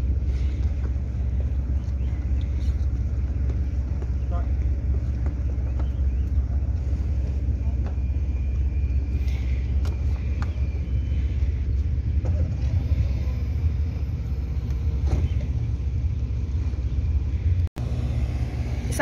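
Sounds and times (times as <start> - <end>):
boat engine low rumble: 0.0 - 19.0.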